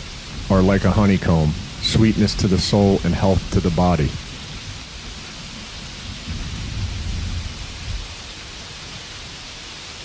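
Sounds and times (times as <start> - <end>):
thunder rumble: 0.0 - 9.6
rain hiss: 0.0 - 10.0.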